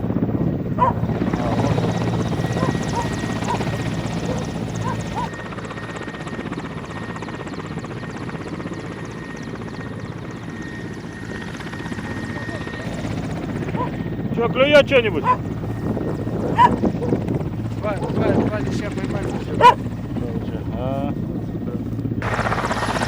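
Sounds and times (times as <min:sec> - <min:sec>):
helicopter engine whine: 0:00.0 - 0:23.0
helicopter rotor beat: 0:00.0 - 0:23.0.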